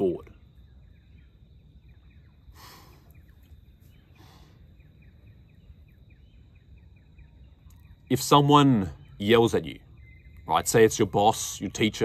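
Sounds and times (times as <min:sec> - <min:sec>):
bird chirps: 0:00.0 - 0:12.0
low outdoor rumble: 0:00.0 - 0:12.0.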